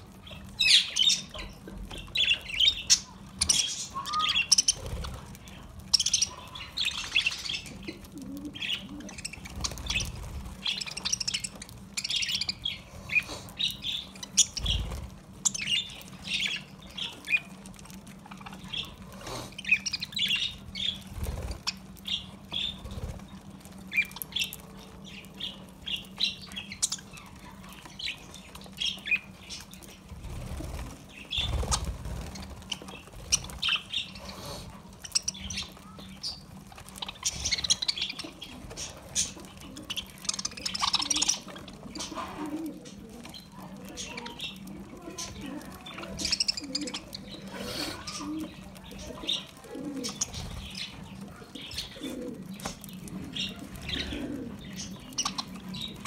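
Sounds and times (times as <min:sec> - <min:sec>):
budgerigars chirping and chattering: 0:00.0 - 0:56.0
wings fluttering: 0:00.1 - 0:56.0.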